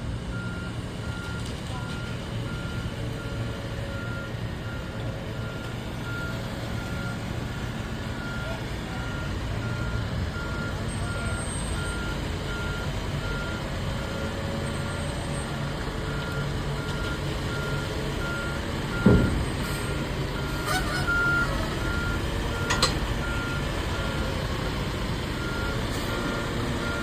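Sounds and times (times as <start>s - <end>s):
diesel engine rumble: 0.0s - 27.0s
reversing alarm beeping: 0.3s - 7.3s, 8.2s - 27.0s.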